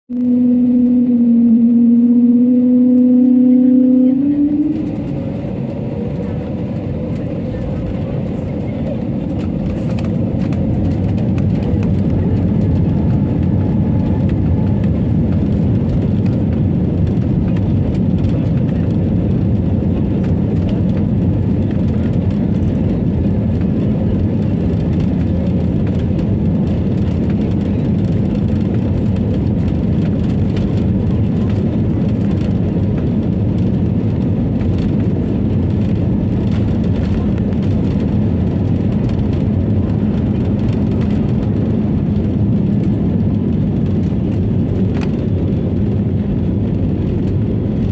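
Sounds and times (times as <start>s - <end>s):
airliner cabin engine rumble: 0.1s - 47.9s.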